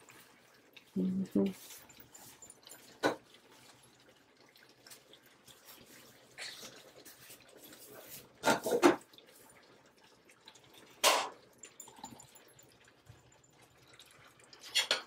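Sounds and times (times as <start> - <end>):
pot of beans bubbling: 0.0 - 15.0.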